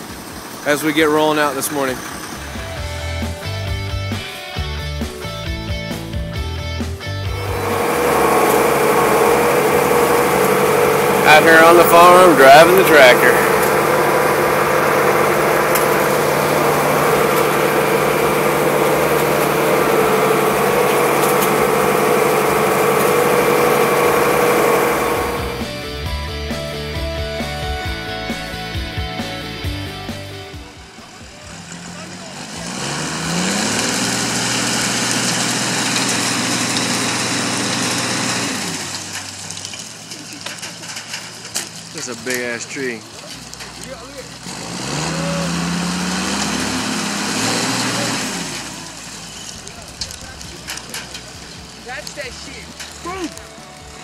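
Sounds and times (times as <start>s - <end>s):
tractor engine running: 0.0s - 54.0s
tree shaker machine drone: 0.0s - 54.0s.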